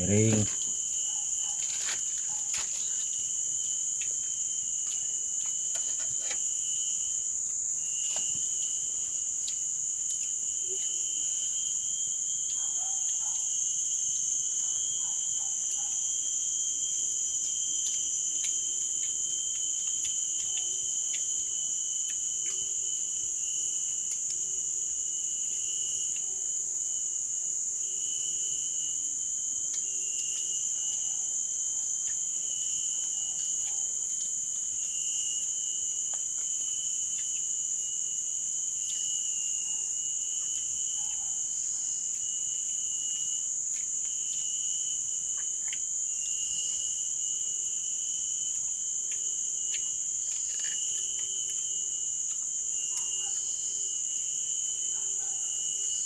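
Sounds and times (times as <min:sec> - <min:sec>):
forest insects droning: 0:00.0 - 0:56.0.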